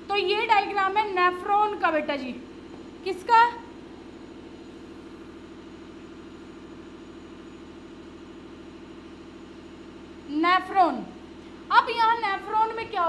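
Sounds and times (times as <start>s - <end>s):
low machine hum with flutter: 0.0s - 13.0s.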